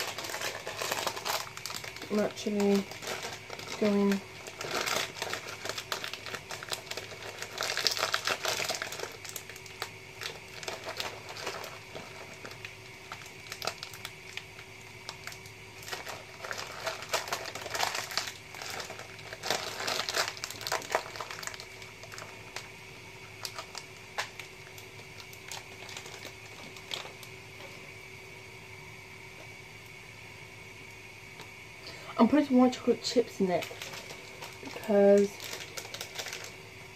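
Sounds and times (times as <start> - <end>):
plastic packet crinkling: 0.0 - 27.8, 33.0 - 36.8
faint steady hum: 0.0 - 36.9.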